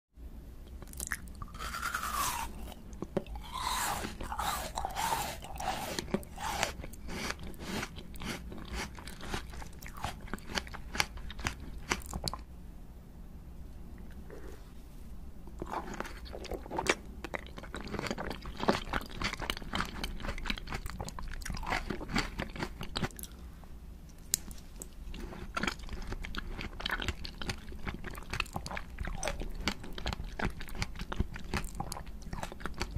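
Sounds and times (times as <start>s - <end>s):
person chewing: 0.7s - 12.5s, 15.6s - 23.4s, 24.3s - 32.9s
crunching hard candy: 0.8s - 12.4s, 15.6s - 23.3s, 25.1s - 32.9s.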